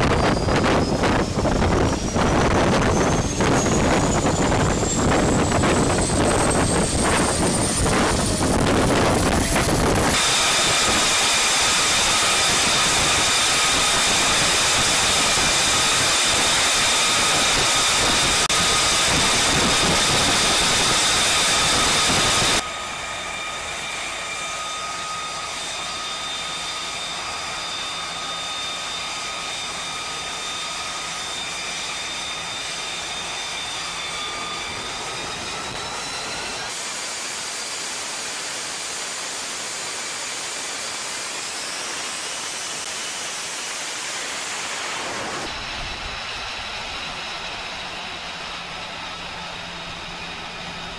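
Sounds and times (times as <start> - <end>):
jet engine rushing and whining: 0.0 - 50.9.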